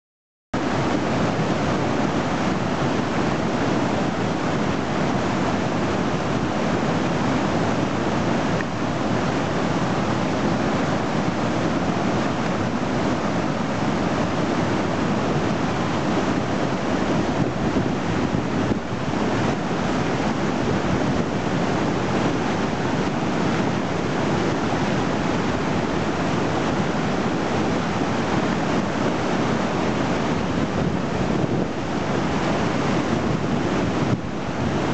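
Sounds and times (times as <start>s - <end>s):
water rushing through rapids: 0.6s - 34.9s.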